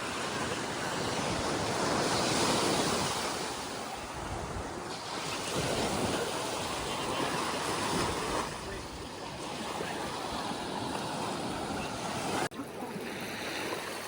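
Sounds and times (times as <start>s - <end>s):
wind buffeting microphone: 0.0s - 12.5s
surf washing onto beach: 0.0s - 14.0s.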